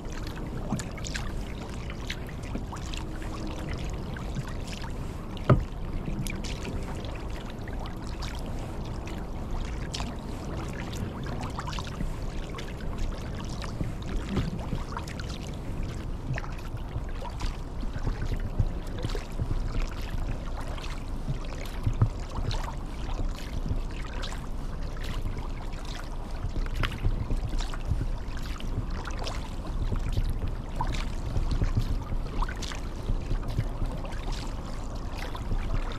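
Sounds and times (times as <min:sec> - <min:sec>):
kayak paddle splashing: 0:00.0 - 0:35.9.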